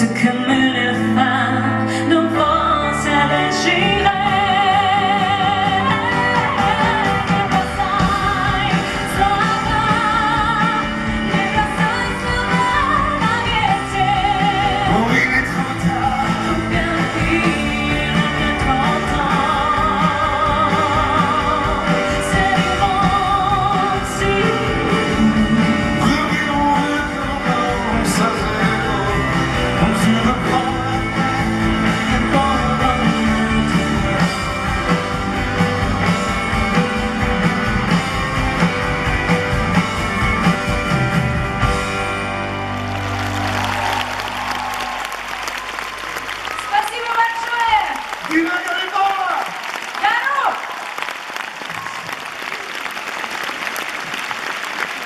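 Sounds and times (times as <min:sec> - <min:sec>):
full band playing: 0:00.0 - 0:55.0.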